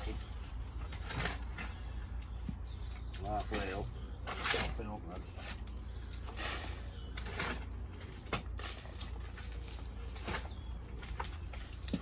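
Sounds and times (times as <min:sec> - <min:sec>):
potting mix gritty rustle: 0:00.0 - 0:12.0.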